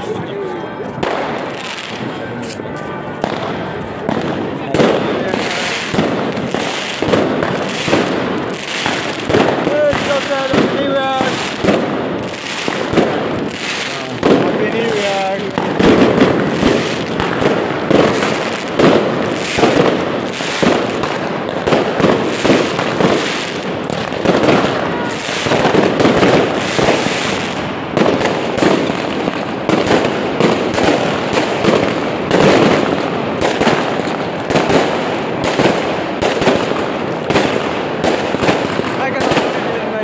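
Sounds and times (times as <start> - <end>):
fireworks bursting overhead: 0.0 - 40.0.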